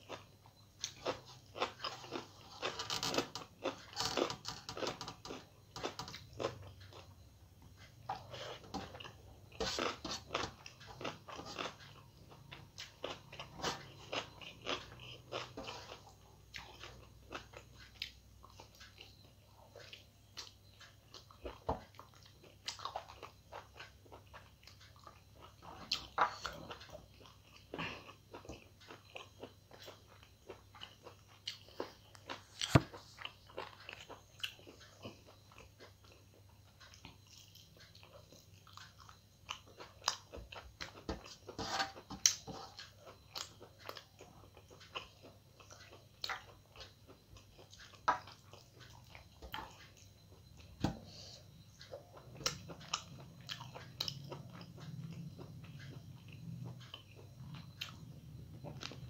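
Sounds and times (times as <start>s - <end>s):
chewing and mouth smacks: 3.6s - 59.0s.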